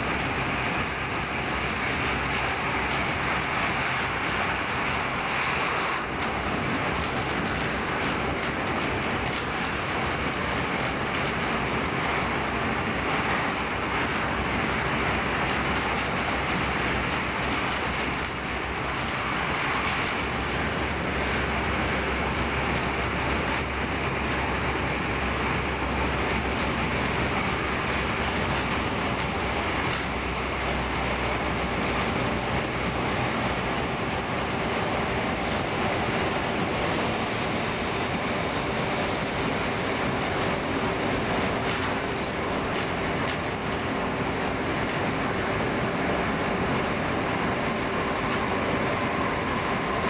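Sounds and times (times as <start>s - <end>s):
train rolling: 0.0s - 50.0s.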